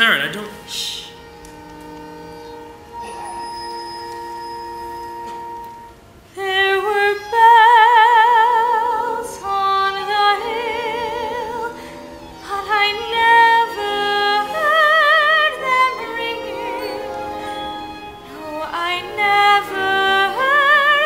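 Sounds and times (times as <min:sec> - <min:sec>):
soft instrumental accompaniment: 0:00.0 - 0:21.0.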